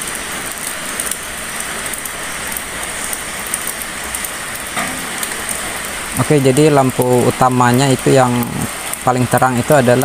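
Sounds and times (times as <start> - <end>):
rain hissing: 0.0 - 10.0
ticks of raindrops: 0.0 - 10.0.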